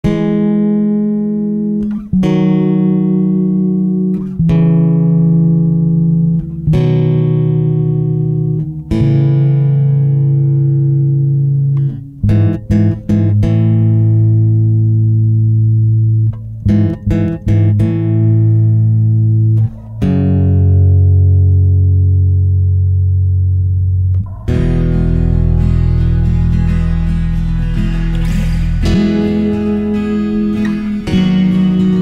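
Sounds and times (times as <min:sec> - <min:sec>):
guitar chords: 0:00.0 - 0:32.0.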